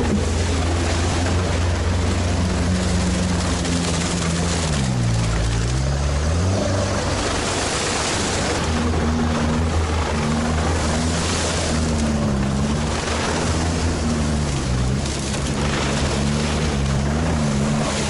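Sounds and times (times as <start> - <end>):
vehicle engine under load: 0.0 - 18.0.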